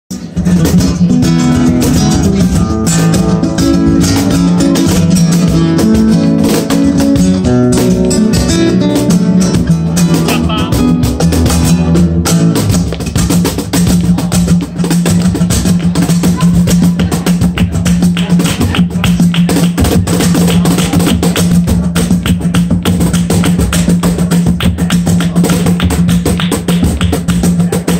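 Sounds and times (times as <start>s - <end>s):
flamenco acoustic guitars: 0.1s - 27.9s
hand claps: 1.6s - 11.7s, 12.6s - 27.9s.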